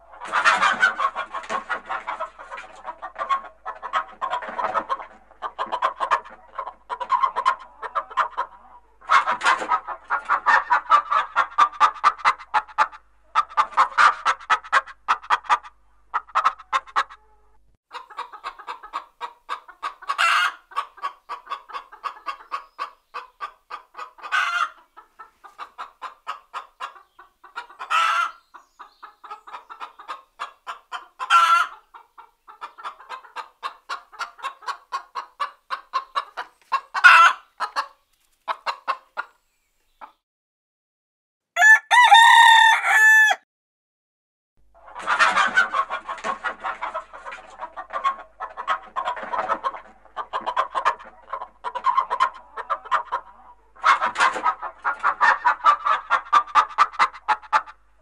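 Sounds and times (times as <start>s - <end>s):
chicken drawn-out call: 0.0s - 39.4s, 41.6s - 43.4s, 44.8s - 57.8s
chickens clucking: 0.0s - 40.2s, 44.7s - 58.0s
chicken squawking: 0.1s - 37.9s, 41.6s - 43.4s, 44.8s - 57.8s.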